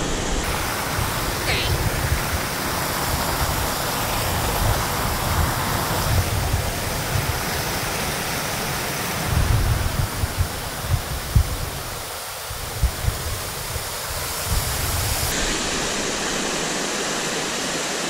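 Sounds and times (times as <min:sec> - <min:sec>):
water rushing over cascades: 0:00.0 - 0:18.0.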